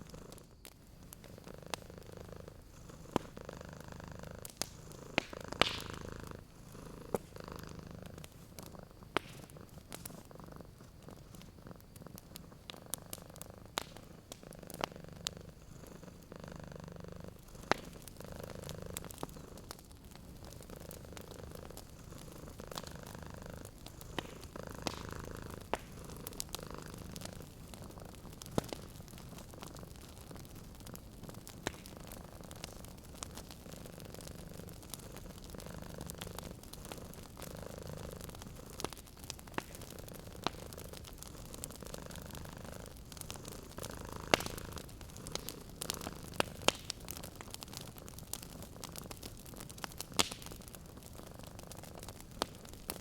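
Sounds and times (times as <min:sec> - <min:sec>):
cat purring: 0:00.0 - 0:53.0
wood fire crackling and popping: 0:00.0 - 0:53.0.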